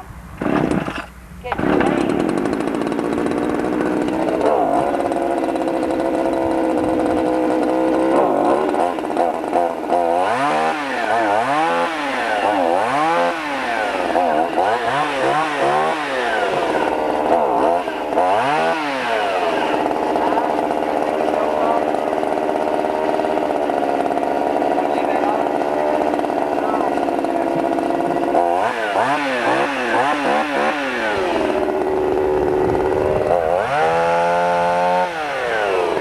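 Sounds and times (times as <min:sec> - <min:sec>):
chainsaw revving: 0:00.0 - 0:36.0.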